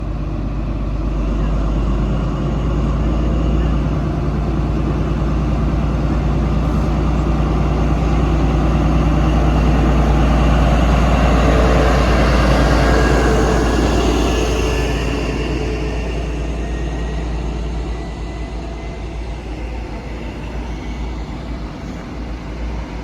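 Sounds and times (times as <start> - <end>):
diesel engine deep hum: 0.0 - 23.0.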